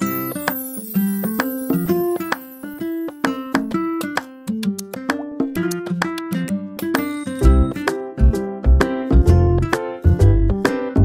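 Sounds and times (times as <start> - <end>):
bouncy melody of sharply struck notes: 0.0 - 11.0.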